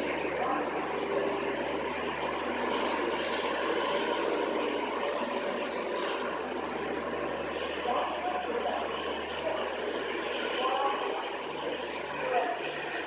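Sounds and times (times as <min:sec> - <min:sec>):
diesel locomotive engine droning: 0:00.0 - 0:13.0.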